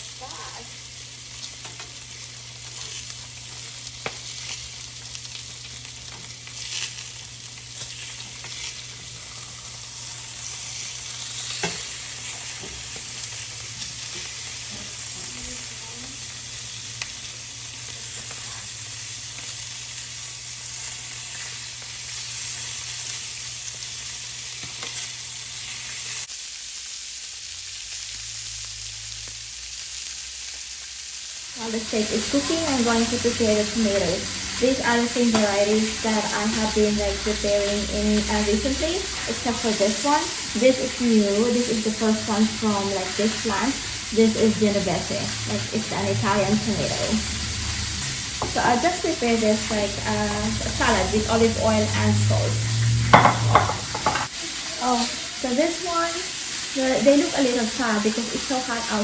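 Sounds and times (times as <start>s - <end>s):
steaks sizzling in grill pan: 0.0s - 59.0s.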